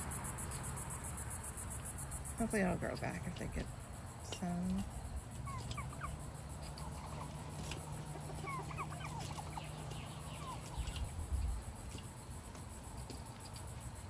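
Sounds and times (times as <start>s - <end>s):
chickens and turkeys clucking: 0.5s - 13.7s.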